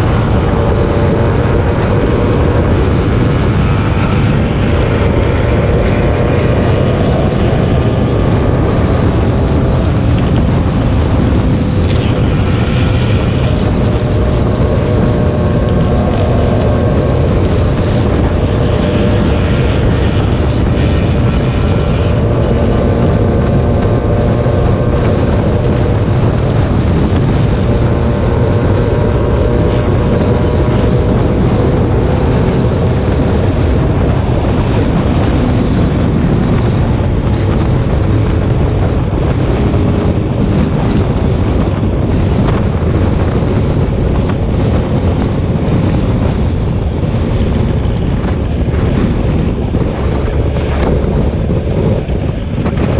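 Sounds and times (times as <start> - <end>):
road noise: 0.0 - 52.9
vehicle engine drone: 0.0 - 52.9
wind buffeting microphone: 0.0 - 52.9.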